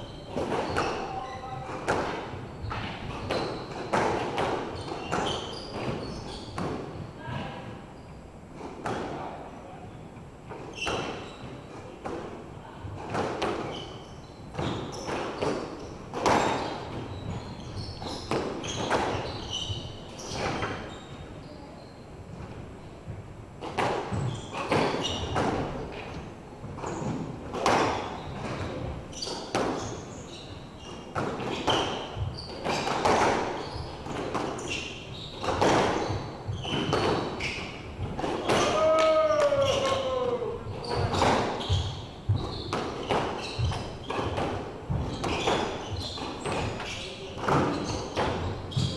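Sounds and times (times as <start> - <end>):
squash ball striking rackets and walls: 0.0 - 7.5, 8.5 - 9.3, 10.5 - 21.1, 23.1 - 48.9
shoes squeaking on wooden floor: 0.0 - 9.0, 10.5 - 12.2, 12.8 - 48.9.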